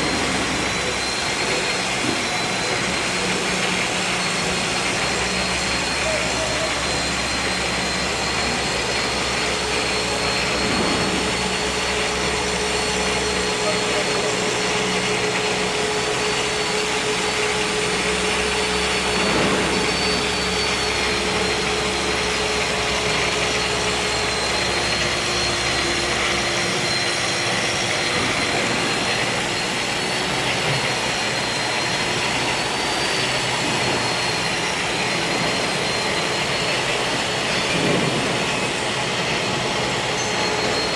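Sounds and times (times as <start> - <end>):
grinding machine running: 0.0 - 40.9
high steady whine: 0.0 - 40.9.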